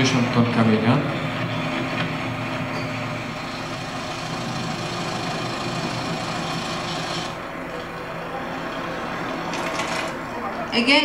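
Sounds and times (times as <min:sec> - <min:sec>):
construction machine engine humming: 0:00.0 - 0:11.0.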